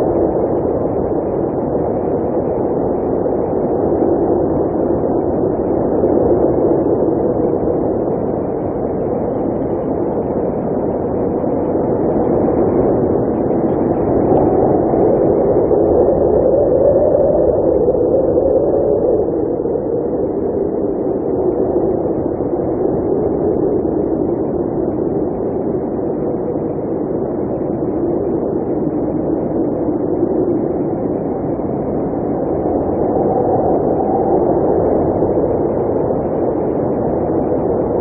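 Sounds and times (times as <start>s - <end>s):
blizzard wind rushing: 0.0s - 38.0s.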